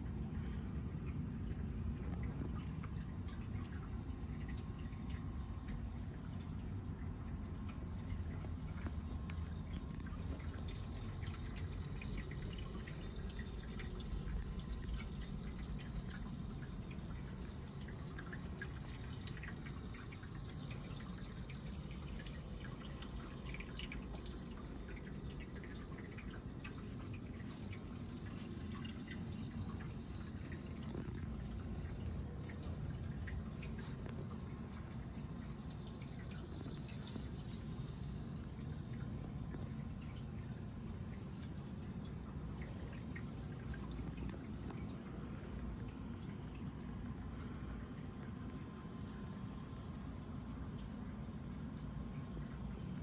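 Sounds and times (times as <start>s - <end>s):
faint dripping water: 0.0s - 53.0s
steady low hum: 0.0s - 53.0s.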